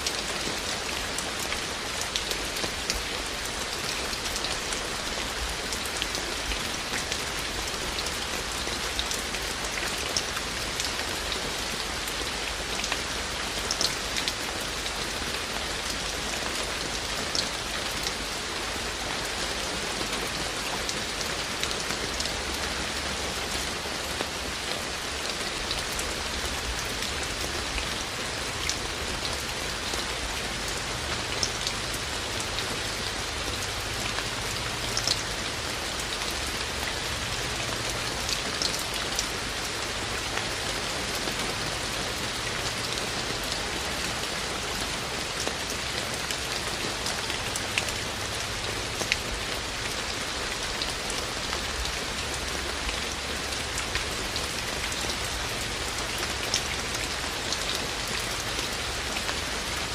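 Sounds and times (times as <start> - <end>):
raindrops ticking on hard surfaces: 0.0 - 59.9
steady rain falling: 0.0 - 59.9.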